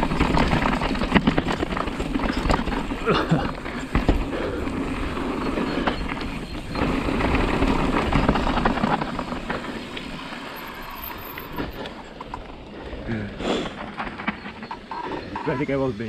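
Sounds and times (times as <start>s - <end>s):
rattle of bike clicks: 0.0s - 15.5s
bike tyres on gravel: 0.0s - 16.0s.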